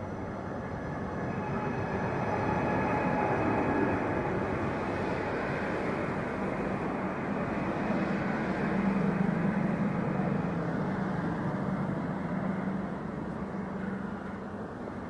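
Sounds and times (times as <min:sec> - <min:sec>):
low train hum: 0:00.0 - 0:15.0
wheel and rail noise: 0:00.0 - 0:15.0.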